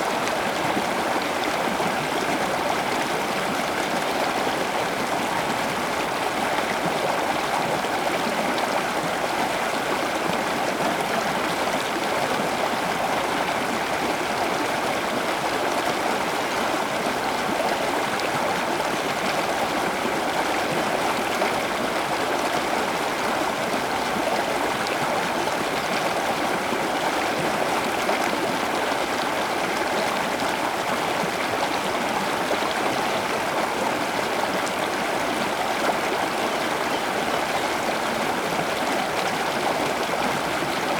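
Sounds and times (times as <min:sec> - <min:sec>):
flowing stream water: 0:00.0 - 0:40.9.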